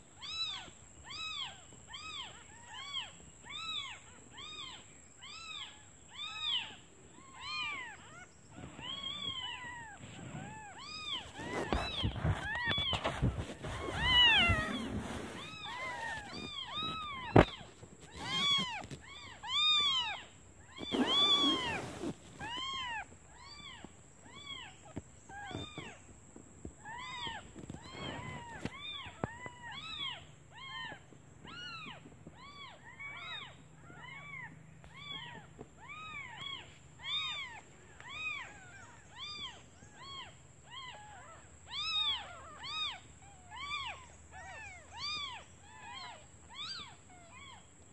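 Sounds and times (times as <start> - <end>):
newborn kittens mewing: 0.2 - 24.7, 26.9 - 47.6.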